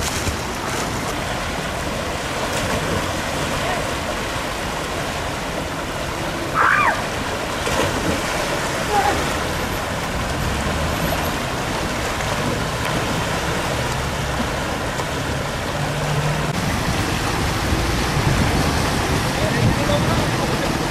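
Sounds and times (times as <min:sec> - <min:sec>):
fast-flowing water rushing: 0:00.0 - 0:20.9.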